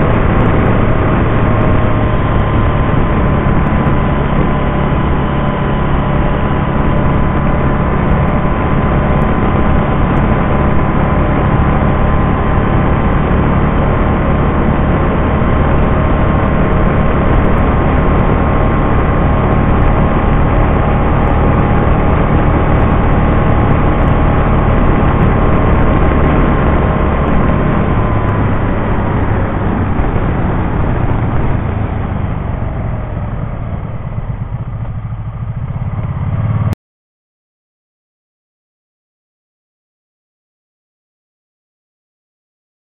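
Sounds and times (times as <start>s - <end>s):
motorcycle engine running: 0.0s - 36.8s
wind and road noise: 0.0s - 36.8s.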